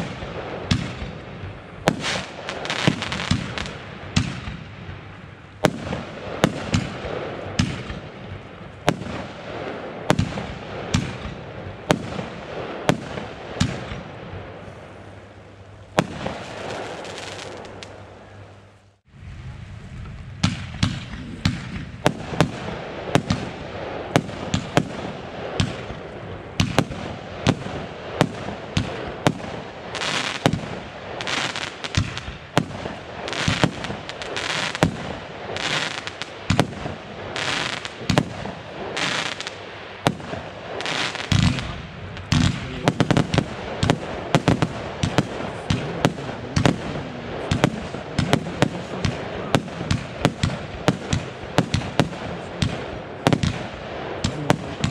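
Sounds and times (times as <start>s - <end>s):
fireworks bangs: 0.0s - 18.4s, 20.0s - 54.9s
fireworks crackling: 0.0s - 54.9s.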